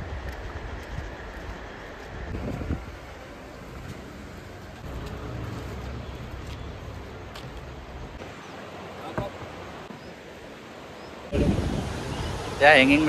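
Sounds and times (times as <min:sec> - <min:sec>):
waterfall and stream rushing: 0:00.0 - 0:13.0.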